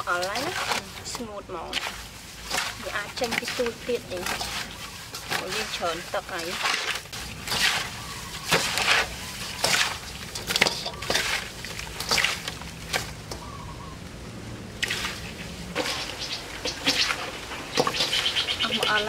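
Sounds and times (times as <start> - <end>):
eels squelching and sloshing water: 0.0 - 14.0, 14.7 - 19.0.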